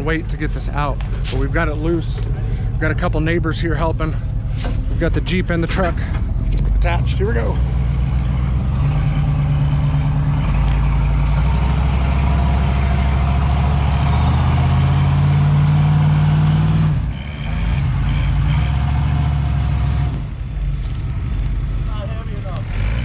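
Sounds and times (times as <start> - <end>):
truck engines revving hard: 0.0 - 23.0.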